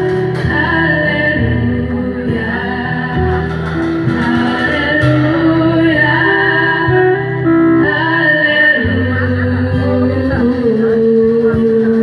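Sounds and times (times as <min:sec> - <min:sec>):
acoustic and electric guitars: 0:00.0 - 0:12.0
girls singing into microphones: 0:00.0 - 0:12.0
steady bass line: 0:00.0 - 0:12.0.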